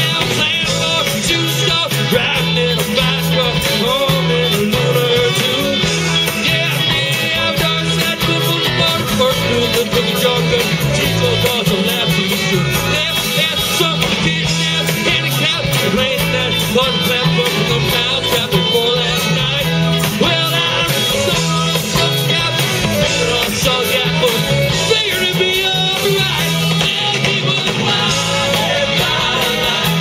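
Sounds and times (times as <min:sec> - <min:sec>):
electric guitars: 0:00.0 - 0:30.0
keyboard: 0:00.0 - 0:30.0
person singing: 0:00.0 - 0:30.0
steady drum beat: 0:00.0 - 0:30.0.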